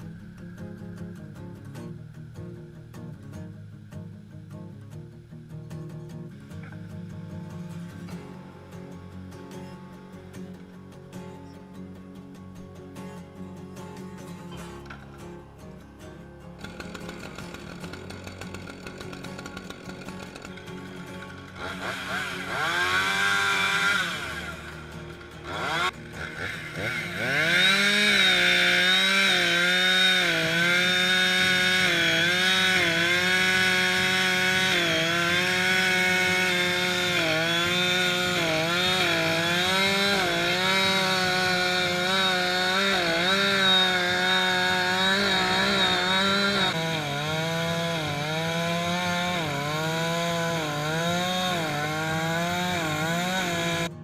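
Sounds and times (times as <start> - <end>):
chainsaw cutting wood: 4.9 - 11.4, 14.0 - 54.0.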